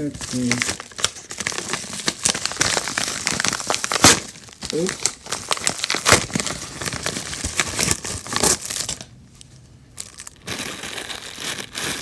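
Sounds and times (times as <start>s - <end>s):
packaging crinkling and tearing: 0.0s - 9.1s, 10.0s - 12.0s.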